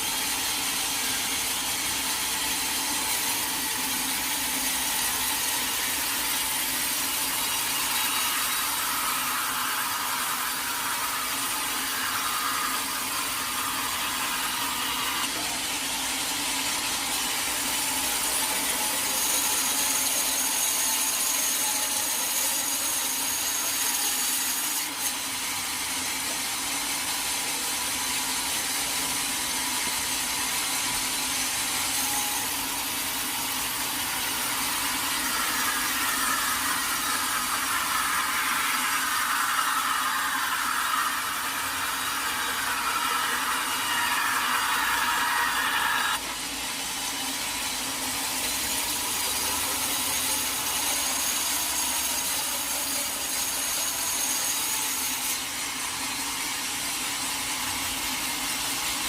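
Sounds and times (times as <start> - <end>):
saw cutting through log: 0.0 - 59.0.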